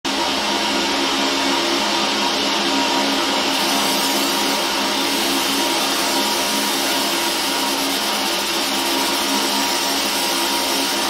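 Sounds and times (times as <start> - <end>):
laser engraver whirring: 0.1 - 11.0.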